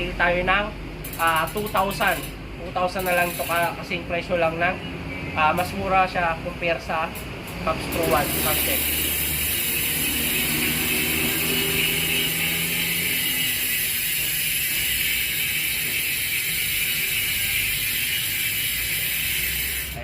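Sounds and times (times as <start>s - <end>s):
bicycle hub ratcheting buzz: 0.0s - 4.6s, 5.6s - 20.0s.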